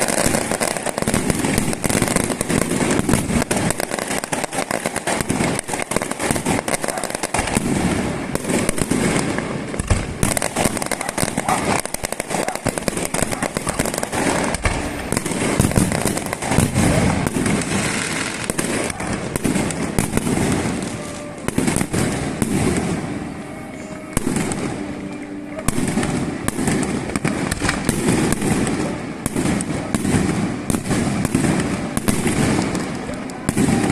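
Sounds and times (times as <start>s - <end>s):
firecrackers banging and popping: 0.0s - 33.9s.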